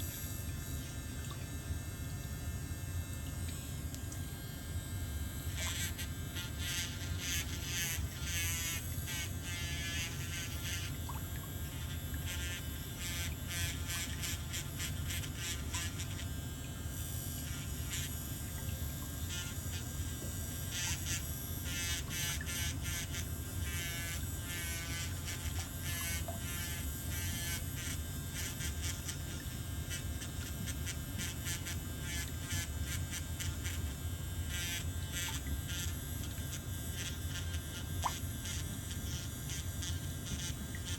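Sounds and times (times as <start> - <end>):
electric nail drill buzzing: 0.0 - 1.0, 3.3 - 40.9.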